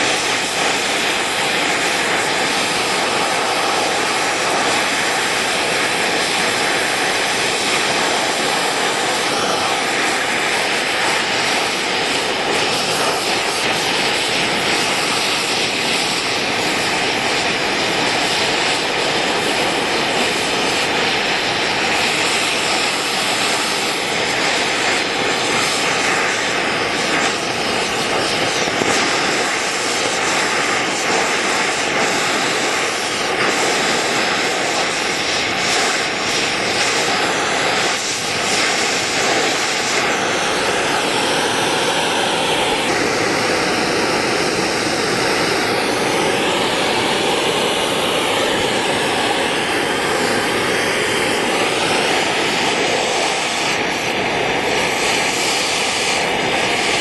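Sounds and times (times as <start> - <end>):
torch flame hissing: 0.0 - 57.0.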